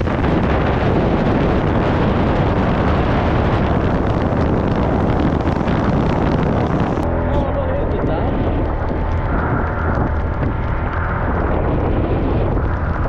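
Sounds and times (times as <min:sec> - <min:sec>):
scooter ride noise: 0:00.0 - 0:13.0
wind buffeting microphone: 0:00.0 - 0:13.0.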